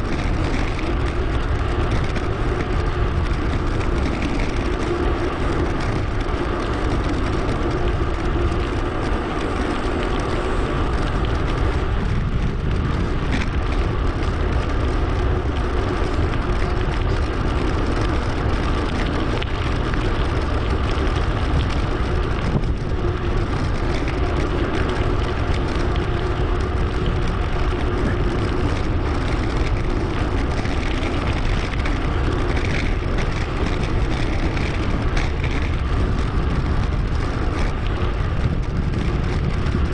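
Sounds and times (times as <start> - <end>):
bicycle rolling noise: 0.0 - 39.9
wind noise: 0.0 - 39.9.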